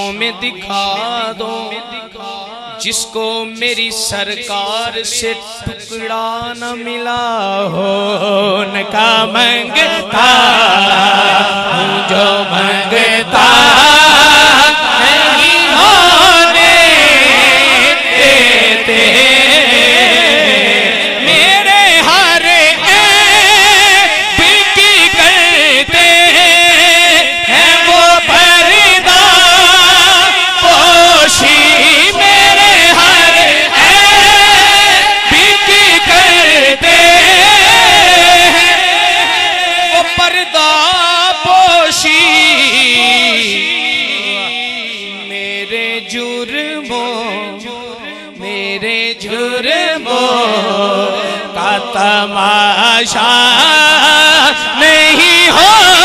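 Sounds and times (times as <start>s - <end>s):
man singing through a microphone: 0.0s - 56.0s.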